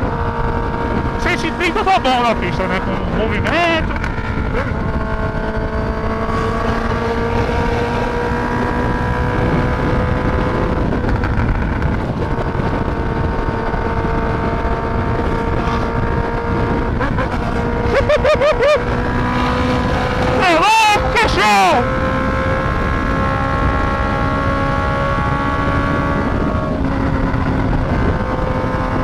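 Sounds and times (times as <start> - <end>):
motorcycle engine cruising: 0.0 - 29.0
wind rush on microphone: 0.0 - 29.0.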